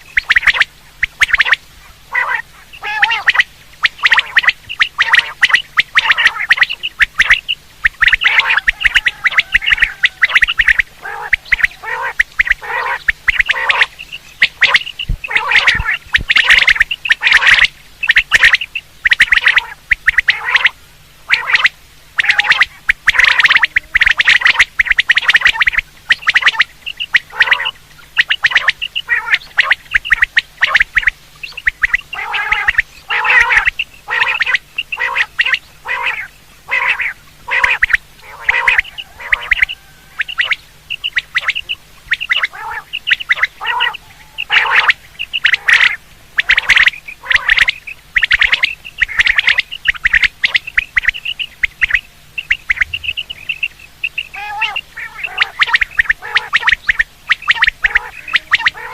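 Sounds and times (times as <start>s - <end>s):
quail calling: 0.0s - 58.9s.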